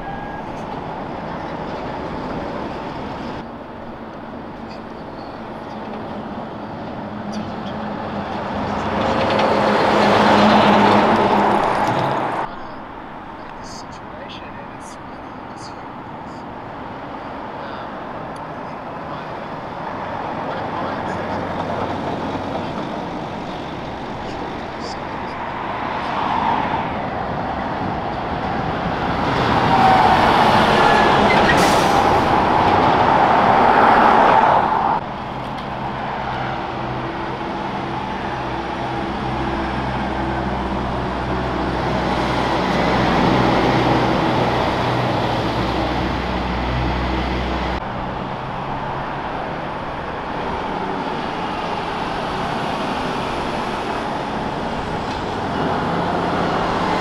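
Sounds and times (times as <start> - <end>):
loud truck passing: 0.0 - 13.4, 15.7 - 57.0
light traffic noise: 0.0 - 57.0
truck engine humming: 0.0 - 57.0.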